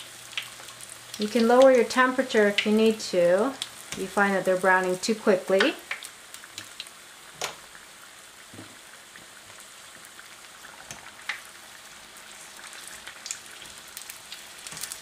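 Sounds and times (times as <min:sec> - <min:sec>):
food deep-frying in oil: 0:00.0 - 0:15.0
oil popping and crackling: 0:00.0 - 0:15.0.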